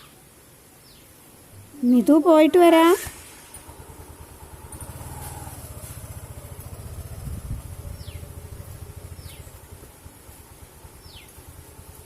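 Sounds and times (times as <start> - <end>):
motorcycle engine running: 1.6 - 12.0.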